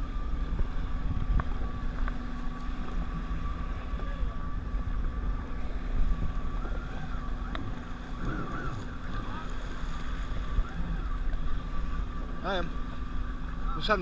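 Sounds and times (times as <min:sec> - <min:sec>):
jet ski engine running: 0:00.0 - 0:14.0
wind buffeting microphone: 0:00.0 - 0:14.0.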